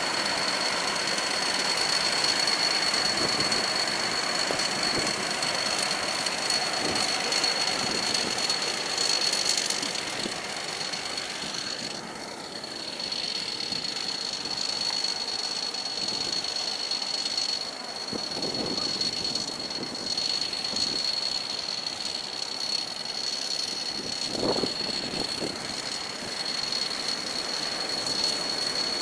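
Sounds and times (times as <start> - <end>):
combine harvester roar: 0.0 - 29.0
high-pitched whine: 0.0 - 29.0.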